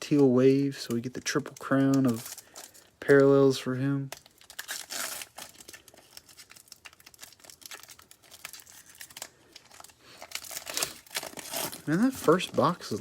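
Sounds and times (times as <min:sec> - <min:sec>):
foil wrapper crinkling and tearing: 0:00.5 - 0:13.0.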